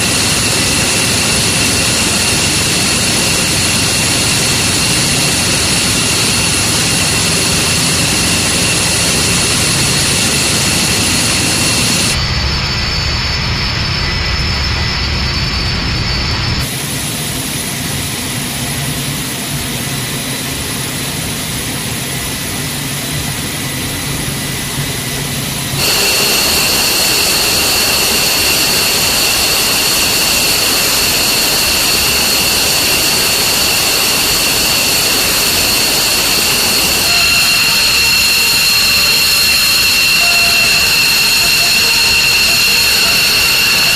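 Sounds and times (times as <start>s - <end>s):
high-pitched jet whine: 0.0s - 43.9s
jet engines running: 0.0s - 43.9s.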